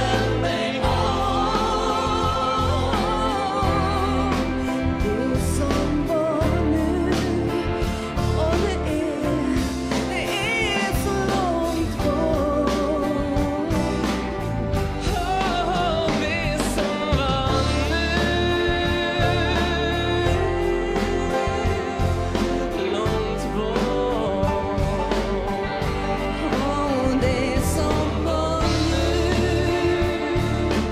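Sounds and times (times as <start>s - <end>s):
band with guitar bass and drums: 0.0s - 30.9s
man and woman singing a duet: 0.0s - 30.9s.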